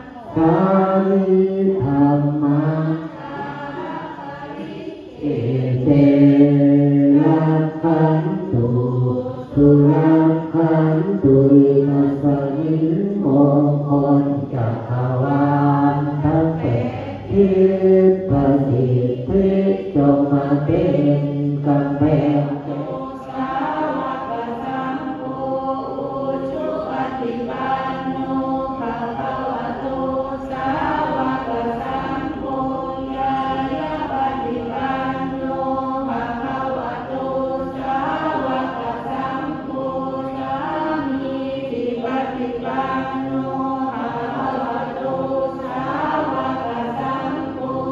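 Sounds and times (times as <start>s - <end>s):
group chanting in unison: 0.0s - 47.9s.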